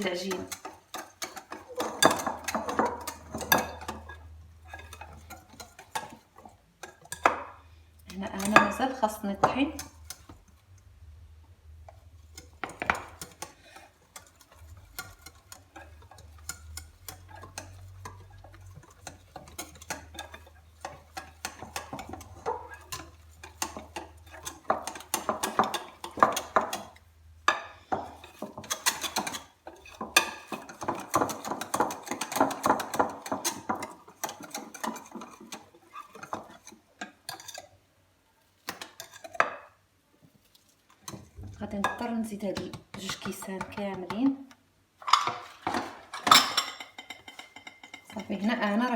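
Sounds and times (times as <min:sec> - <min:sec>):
utensil scraping mixing bowl: 0:00.0 - 0:10.6, 0:11.9 - 0:37.8, 0:38.6 - 0:39.5, 0:40.2 - 0:48.9.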